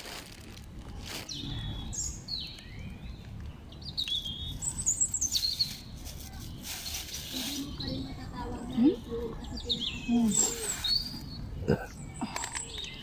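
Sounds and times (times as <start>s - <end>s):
small birds chirping: 0.8s - 13.0s.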